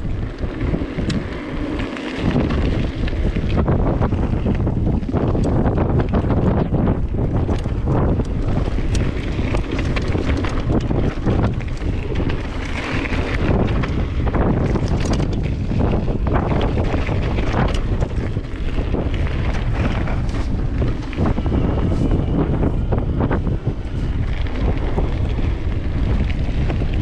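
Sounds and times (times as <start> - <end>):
bike clicks and rattles: 0.0 - 27.0
tyres rumbling on dirt: 0.0 - 27.0
wind buffeting microphone: 0.0 - 27.0.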